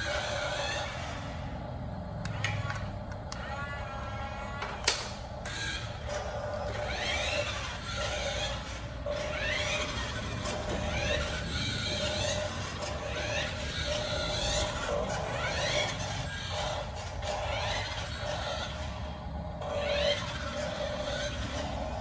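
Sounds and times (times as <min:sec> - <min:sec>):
toy truck motor whining: 0:00.0 - 0:01.4, 0:02.2 - 0:22.0
wheels rumbling on tile: 0:00.0 - 0:22.0.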